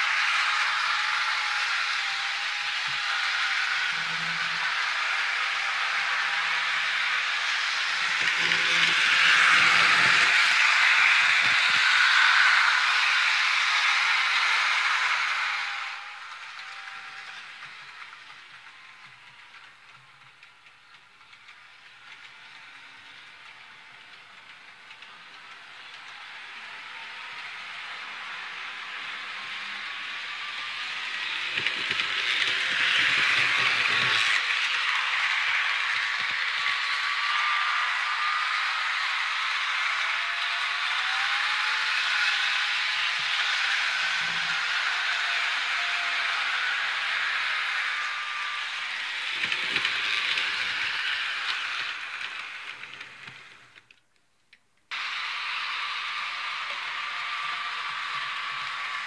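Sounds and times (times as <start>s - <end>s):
model train whirring on track: 0.0s - 54.0s, 54.8s - 59.0s.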